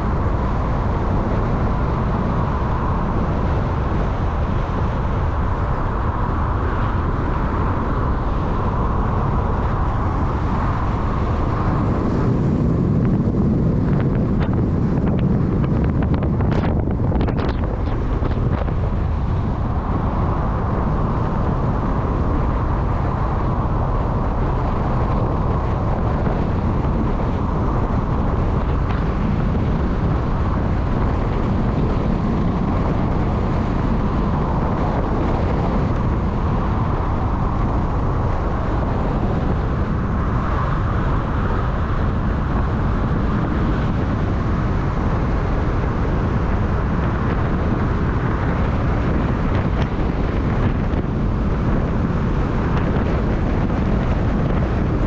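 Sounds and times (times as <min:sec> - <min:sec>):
vehicle rumble: 0:00.0 - 0:55.0
wind noise on microphone: 0:00.0 - 0:55.0.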